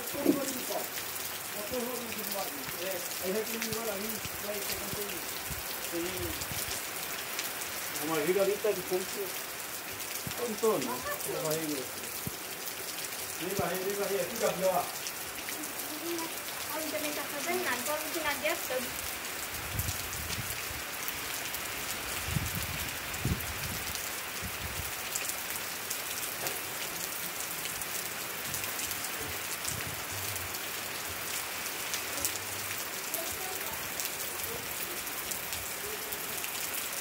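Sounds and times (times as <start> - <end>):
rain on plants and soil: 0.0 - 37.0.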